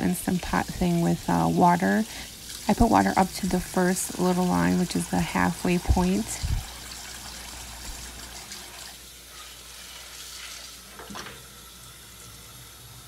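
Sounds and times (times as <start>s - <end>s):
tap water running into a pot: 0.0s - 13.0s.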